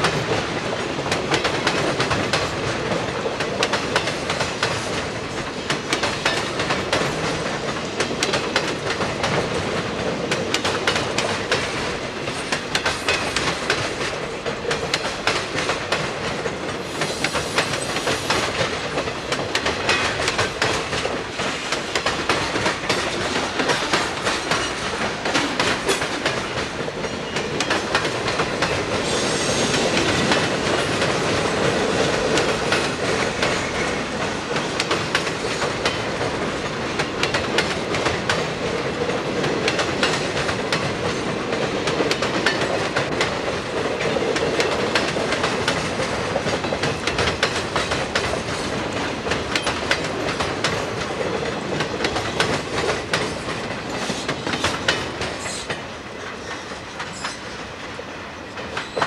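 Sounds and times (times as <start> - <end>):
freight train wheels clicking: 0.0 - 59.0
train rumble: 0.0 - 59.0.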